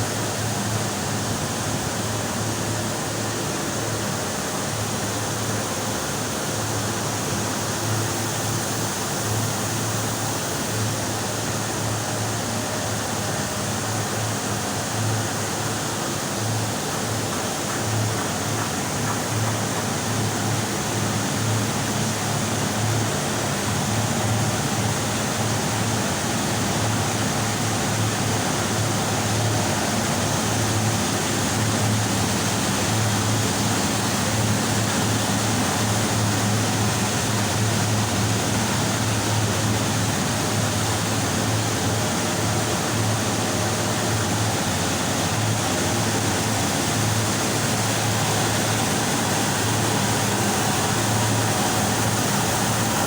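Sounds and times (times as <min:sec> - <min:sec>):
steam boiler roaring: 0:00.0 - 0:53.0.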